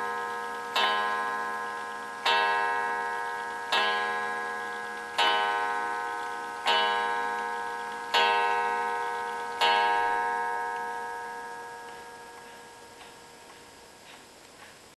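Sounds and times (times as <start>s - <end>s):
clock gong striking: 0.0s - 13.5s
faint clock ticking: 0.0s - 14.9s.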